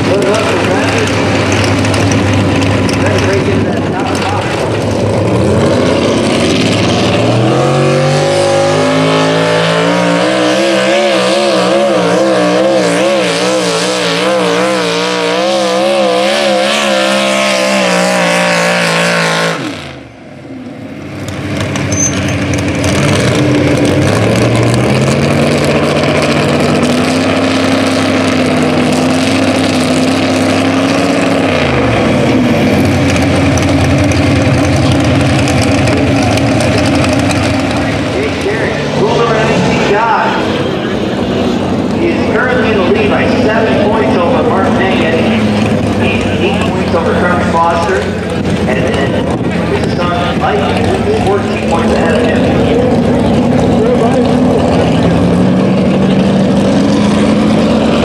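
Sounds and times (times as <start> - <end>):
truck engines at full throttle: 0.0 - 58.0.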